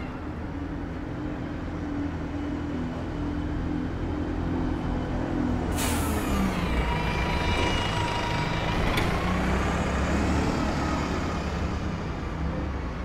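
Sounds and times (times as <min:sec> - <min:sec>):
heavy vehicle engine running: 0:00.0 - 0:13.0
street traffic: 0:00.0 - 0:13.0.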